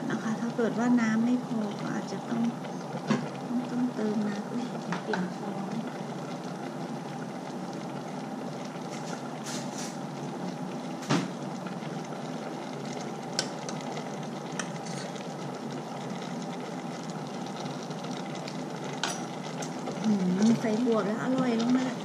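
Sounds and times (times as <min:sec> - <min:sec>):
curry simmering in a pot: 0:00.0 - 0:22.0
kitchen hum: 0:00.0 - 0:22.0.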